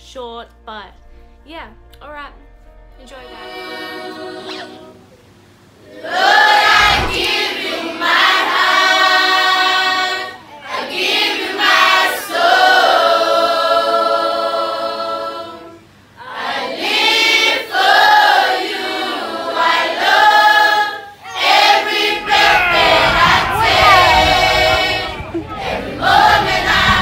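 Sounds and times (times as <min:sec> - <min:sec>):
choir singing: 0:02.9 - 0:05.1, 0:05.8 - 0:27.0.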